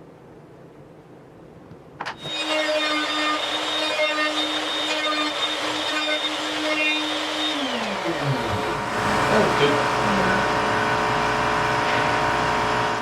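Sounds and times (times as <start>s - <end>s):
power saw motor running: 2.1s - 13.0s
saw motor spinning down: 2.2s - 13.0s.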